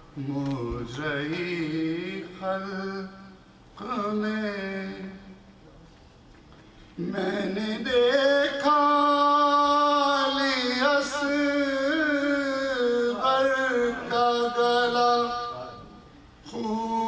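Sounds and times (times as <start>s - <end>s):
man chanting: 0.2s - 5.4s, 7.0s - 17.0s.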